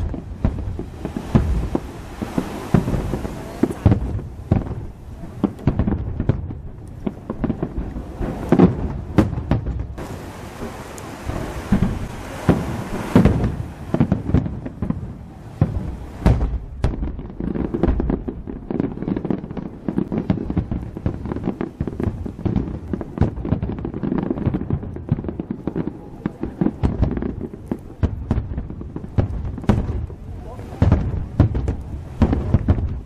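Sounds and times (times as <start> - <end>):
fireworks bangs and booms: 0.0 - 33.0
hissing crackle: 0.0 - 33.0.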